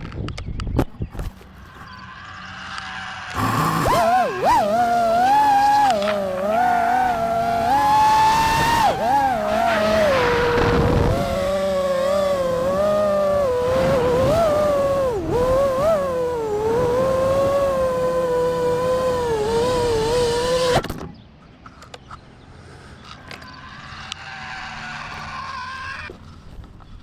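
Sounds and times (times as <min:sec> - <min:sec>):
drone motors whining: 0:01.2 - 0:21.0, 0:23.0 - 0:27.0.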